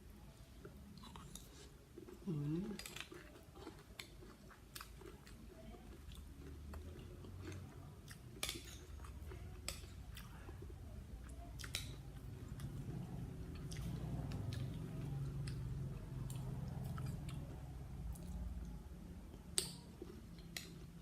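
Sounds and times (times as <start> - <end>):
person chewing and crunching food: 0.6 - 21.0.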